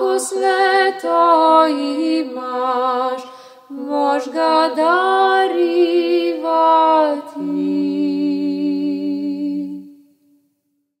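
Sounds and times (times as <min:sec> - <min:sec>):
voices singing a hymn: 0:00.0 - 0:10.1.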